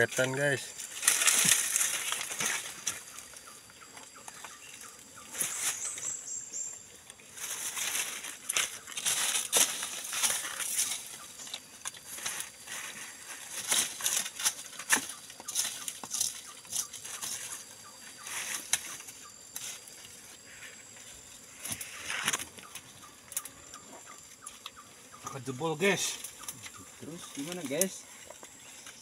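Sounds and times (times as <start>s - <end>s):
leafy branches rustling: 0.0s - 29.0s.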